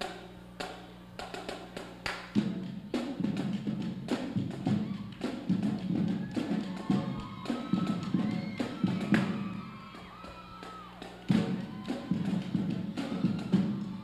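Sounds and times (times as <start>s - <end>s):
drumline playing: 1.2s - 14.0s.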